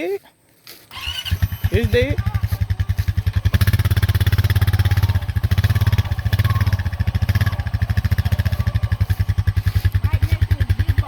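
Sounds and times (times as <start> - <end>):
small engine puttering: 0.8 - 11.0.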